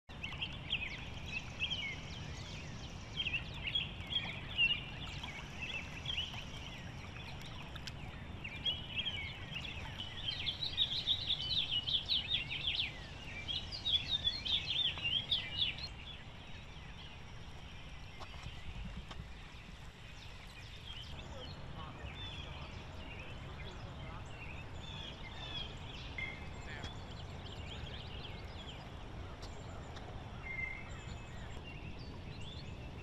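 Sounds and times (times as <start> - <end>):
birds chirping and calling: 0.1 - 33.0.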